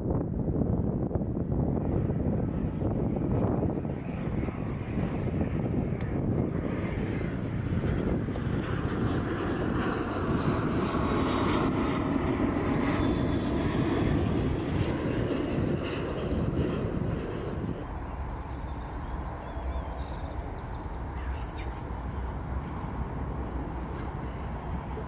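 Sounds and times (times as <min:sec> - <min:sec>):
distant jet airliner rumble: 0:00.0 - 0:25.0.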